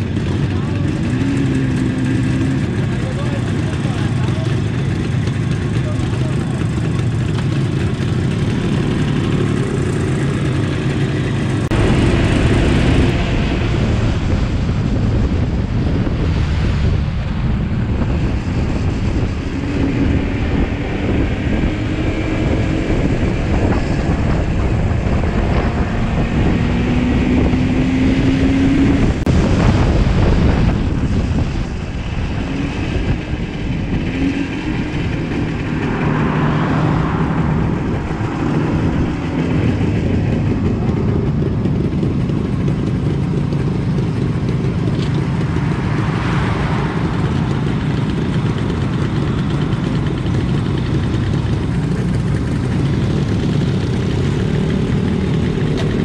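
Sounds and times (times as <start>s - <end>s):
motorcycle engine running: 0.0s - 56.0s
wind rushing over microphone: 8.3s - 56.0s.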